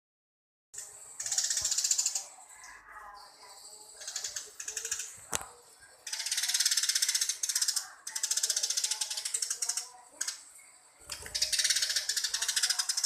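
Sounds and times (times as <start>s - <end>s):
sparrow chirping: 1.1s - 5.2s, 5.8s - 13.0s.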